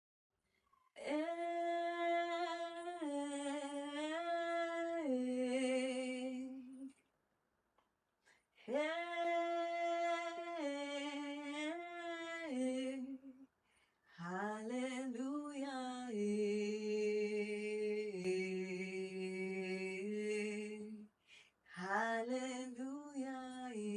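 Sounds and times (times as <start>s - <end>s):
person singing wordless melody: 1.0s - 7.0s, 8.6s - 13.5s, 14.2s - 21.1s, 21.7s - 23.9s.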